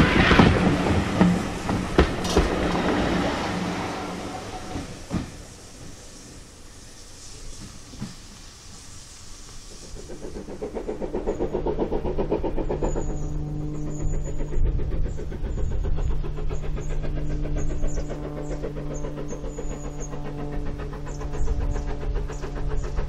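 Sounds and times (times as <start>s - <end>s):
engine-like hum: 0.0s - 7.6s, 8.7s - 23.0s
steam locomotive exhaust beats: 0.0s - 23.0s.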